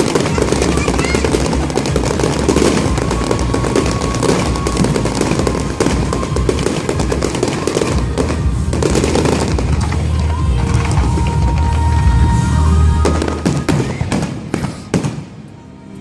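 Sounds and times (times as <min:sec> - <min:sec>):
fireworks crackling: 0:00.0 - 0:15.6.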